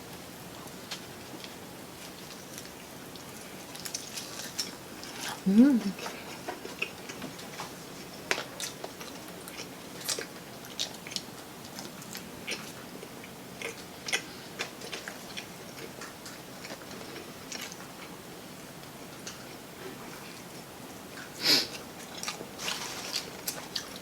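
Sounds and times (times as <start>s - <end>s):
chewing crispy fried chicken: 0.1s - 24.0s.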